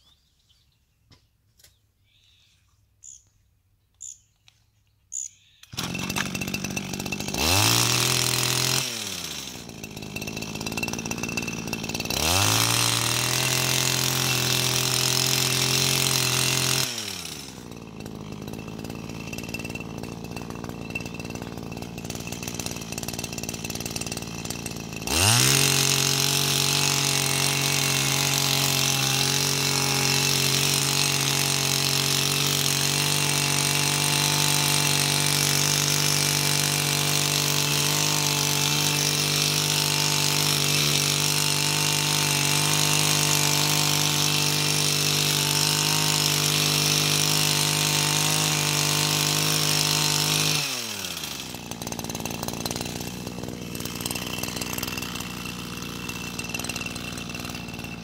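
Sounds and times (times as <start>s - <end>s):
small petrol engine revving: 5.7s - 58.0s.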